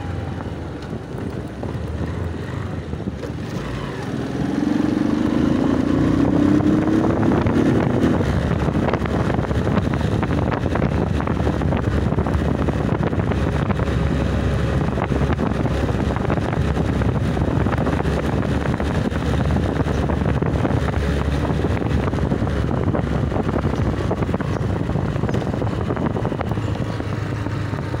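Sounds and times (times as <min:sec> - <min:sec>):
motorcycle engine running: 0:00.0 - 0:28.0
wind over microphone: 0:00.0 - 0:28.0.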